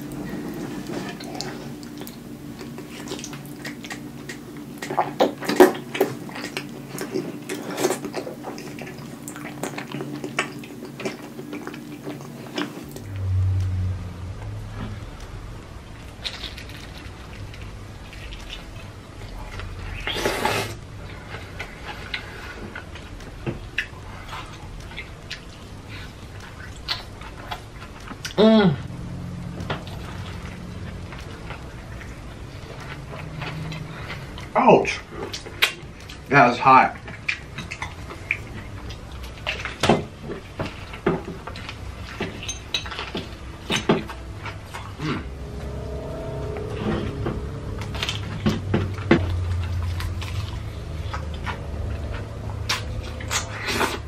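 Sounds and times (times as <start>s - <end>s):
wet smacking and chewing: 0.0s - 13.7s, 15.9s - 28.4s, 29.1s - 36.3s, 37.0s - 46.7s, 47.4s - 54.0s.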